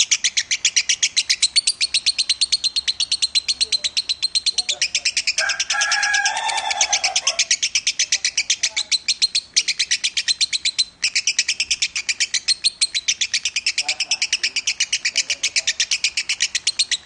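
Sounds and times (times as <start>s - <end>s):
lovebird chattering trill: 0.0s - 17.0s.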